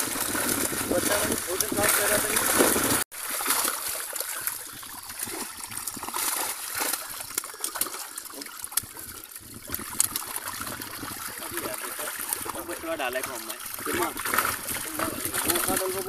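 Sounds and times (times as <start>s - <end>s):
fish thrashing and splashing: 0.0s - 16.0s.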